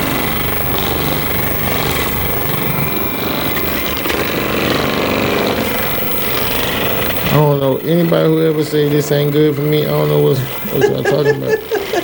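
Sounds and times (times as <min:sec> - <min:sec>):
massage gun hammering buzz: 0:00.0 - 0:12.0.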